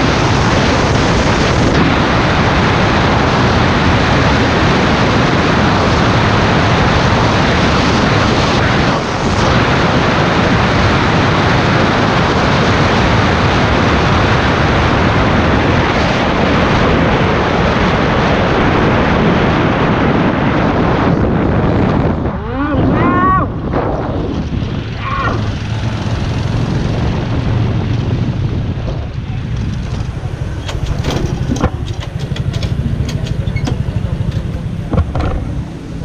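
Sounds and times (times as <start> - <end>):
wind rushing over microphone: 0.0 - 36.0.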